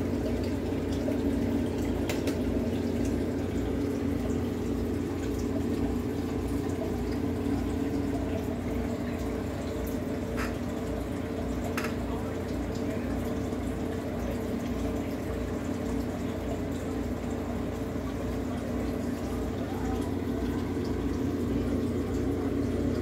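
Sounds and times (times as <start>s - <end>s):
aquarium pump humming: 0.0s - 23.0s
water trickling: 0.0s - 23.0s.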